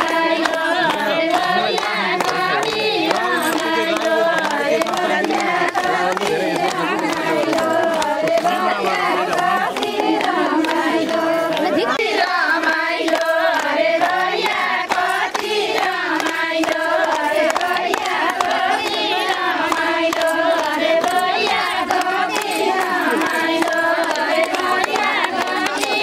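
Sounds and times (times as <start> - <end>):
rhythmic hand clapping: 0.0 - 26.0
women singing in chorus: 0.0 - 26.0.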